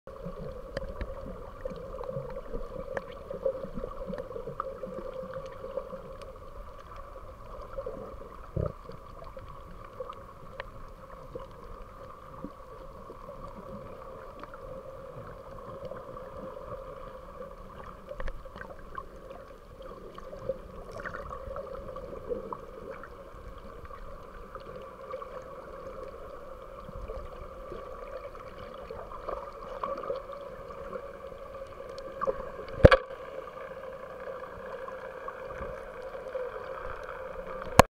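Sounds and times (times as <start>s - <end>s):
faint clicks and crackles: 0.1s - 37.9s
underwater hum: 0.1s - 37.9s.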